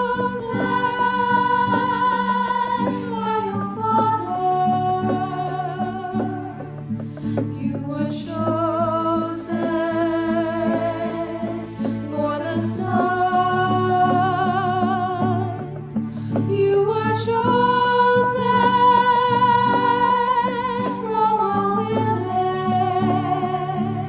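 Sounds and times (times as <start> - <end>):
strummed acoustic guitar: 0.0 - 24.0
woman singing a hymn: 0.0 - 24.0.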